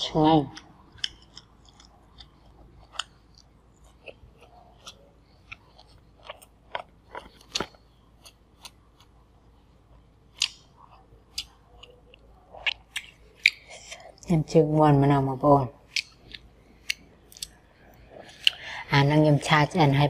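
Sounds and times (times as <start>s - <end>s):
mouth chewing food: 0.1s - 14.5s, 15.7s - 18.9s.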